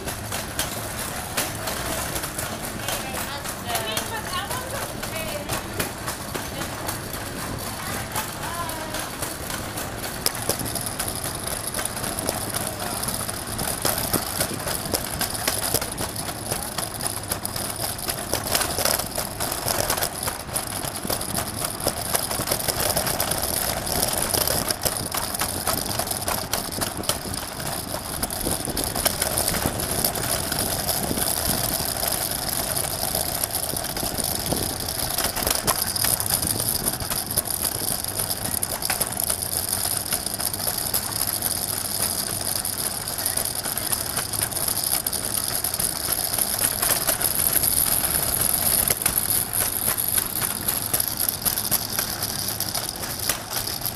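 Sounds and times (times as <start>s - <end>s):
small clicks and rattles: 0.0s - 53.9s
traffic and engine noise: 0.0s - 53.9s.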